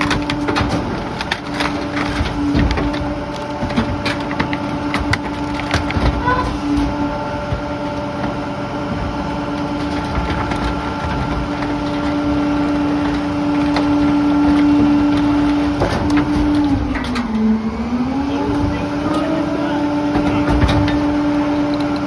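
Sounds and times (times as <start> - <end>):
garbage truck engine running: 0.0 - 22.0.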